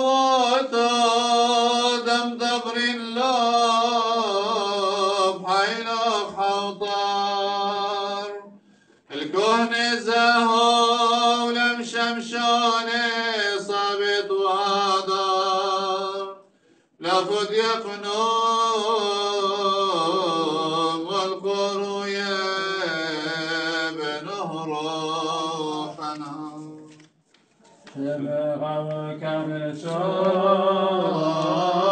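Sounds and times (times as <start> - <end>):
male chant: 0.0 - 16.4, 17.0 - 27.0, 27.9 - 31.9.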